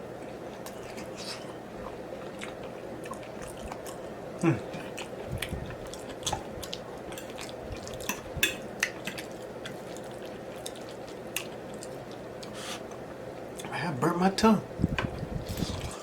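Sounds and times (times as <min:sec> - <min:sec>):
faint steady hum: 0:00.0 - 0:16.0
person chewing with mouth smacks: 0:00.2 - 0:13.7.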